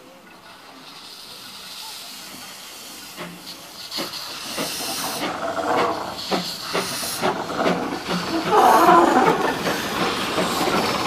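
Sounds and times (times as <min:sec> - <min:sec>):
steam hissing: 0:00.0 - 0:11.0
steam locomotive chuffing: 0:00.0 - 0:11.0.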